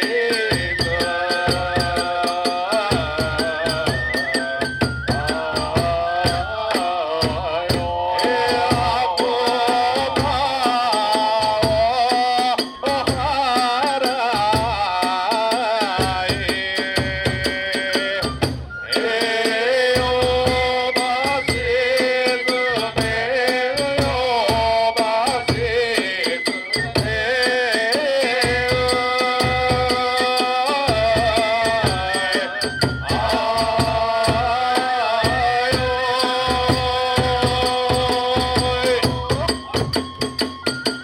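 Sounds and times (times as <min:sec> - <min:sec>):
bamboo flute melody: 0:00.0 - 0:14.5, 0:16.3 - 0:41.0
big drum beat: 0:00.0 - 0:41.0.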